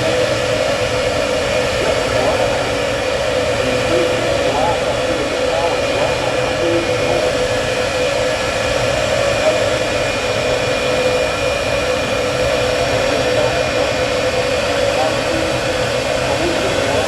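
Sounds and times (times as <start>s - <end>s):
jet engine running: 0.0s - 17.0s.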